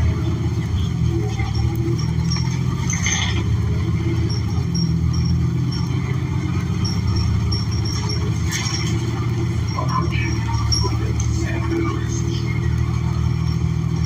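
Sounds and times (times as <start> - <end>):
bus engine low rumble: 0.0 - 14.0.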